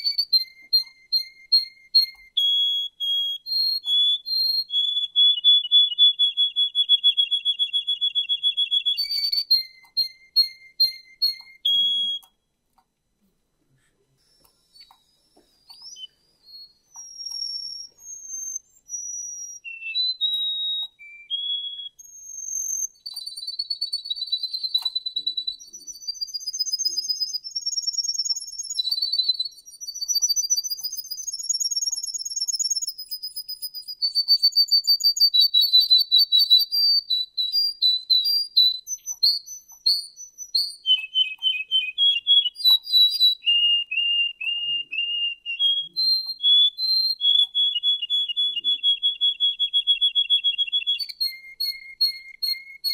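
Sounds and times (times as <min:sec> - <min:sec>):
canary singing: 0:00.0 - 0:12.8, 0:14.4 - 0:52.9.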